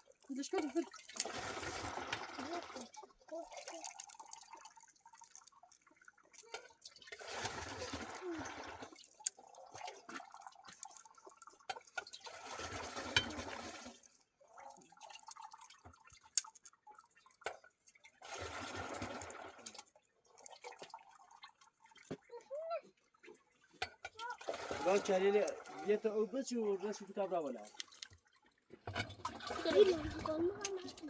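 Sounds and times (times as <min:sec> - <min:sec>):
faint drips and ticks: 0:00.0 - 0:31.0
liquid splashing and sloshing: 0:00.0 - 0:31.0.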